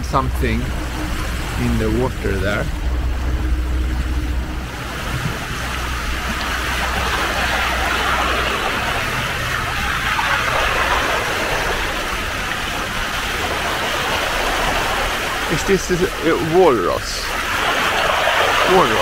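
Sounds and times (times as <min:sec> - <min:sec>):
boat engine humming: 0:00.0 - 0:19.0
water rushing along hull: 0:00.0 - 0:19.0.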